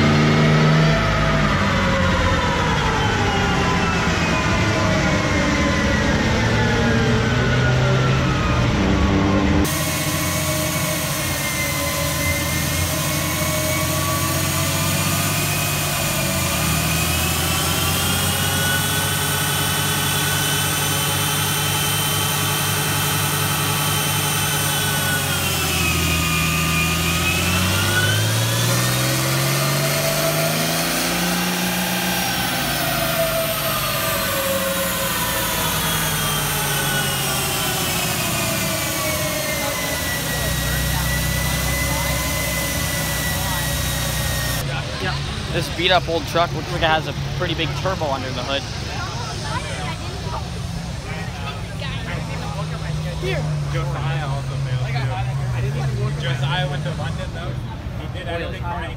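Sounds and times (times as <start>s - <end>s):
truck engine on dyno rollers: 0.0s - 58.9s.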